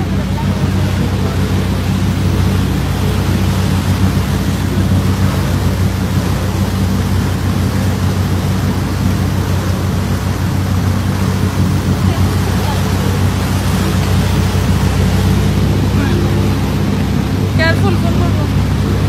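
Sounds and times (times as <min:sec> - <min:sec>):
boat engine droning: 0:00.0 - 0:19.0
churning wake water: 0:00.0 - 0:19.0.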